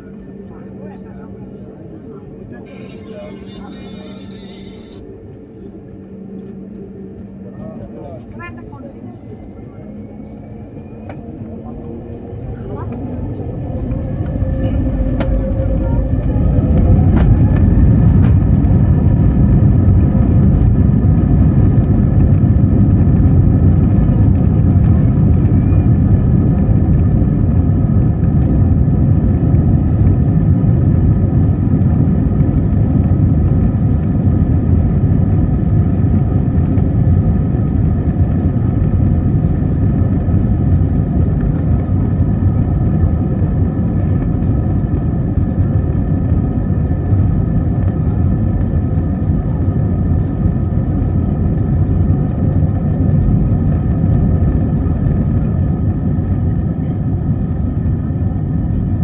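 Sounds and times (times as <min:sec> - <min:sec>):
airliner engines rumbling: 0:00.0 - 0:59.0.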